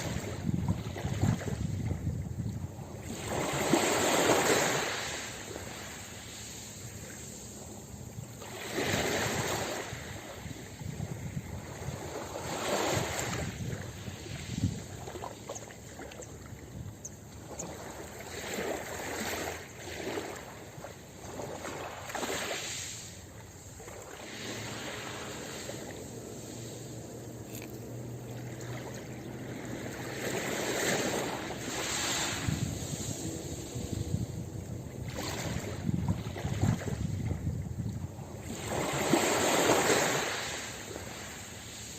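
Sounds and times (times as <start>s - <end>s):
ocean surf washing on beach: 0.0s - 16.9s, 17.6s - 41.9s.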